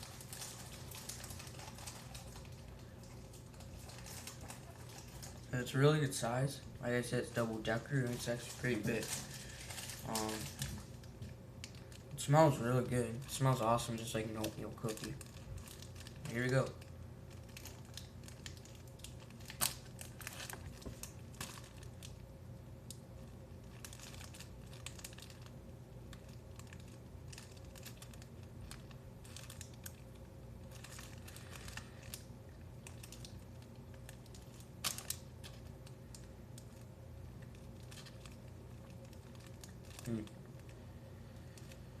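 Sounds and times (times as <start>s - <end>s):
low steady hum: 0.0s - 42.0s
plastic wrapper crinkling: 0.0s - 42.0s.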